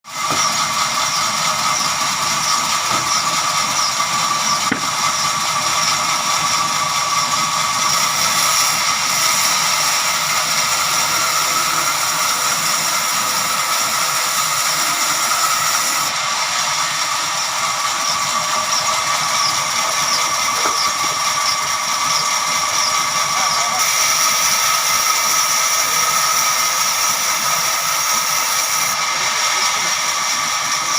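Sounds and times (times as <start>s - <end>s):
sawmill saw cutting log: 0.1s - 30.9s.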